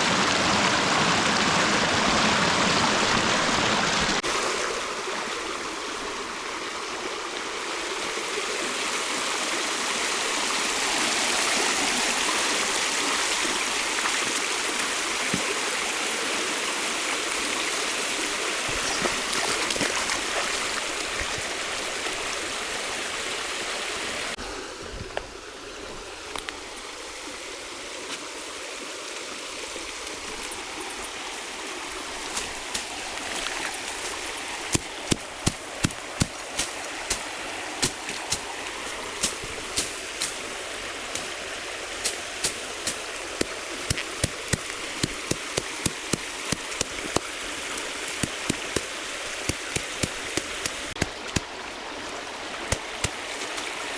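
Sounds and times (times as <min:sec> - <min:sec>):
river water rushing: 0:00.0 - 0:53.9.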